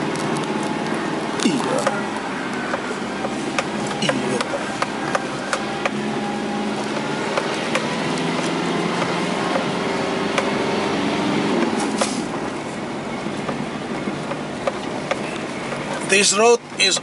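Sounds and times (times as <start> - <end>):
car engine running: 0.0 - 17.0
car rattling on rough road: 0.0 - 17.0.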